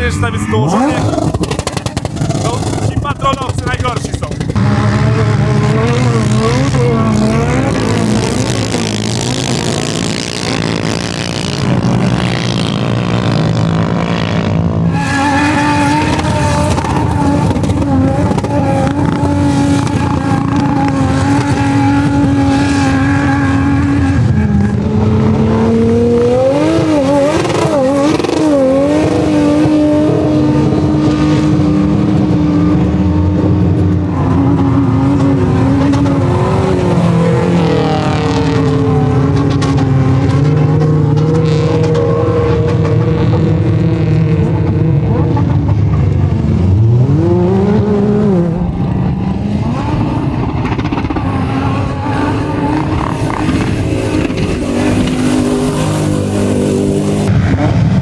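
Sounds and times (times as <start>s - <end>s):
off-road engines revving under load: 0.0s - 58.0s.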